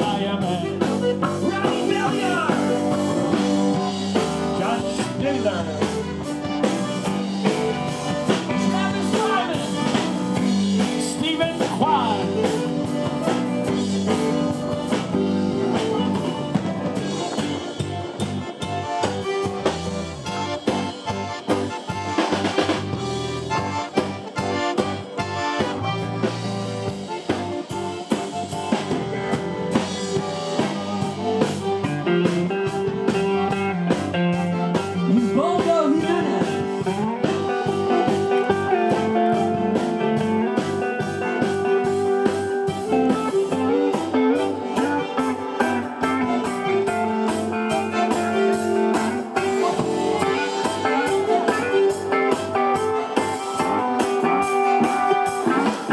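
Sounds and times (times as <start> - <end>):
drum kit steady beat: 0.0 - 55.9
electric guitar lines: 0.0 - 55.9.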